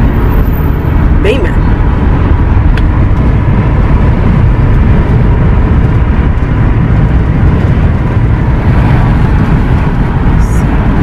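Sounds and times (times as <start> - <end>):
road and engine rumble in van: 0.0 - 11.0.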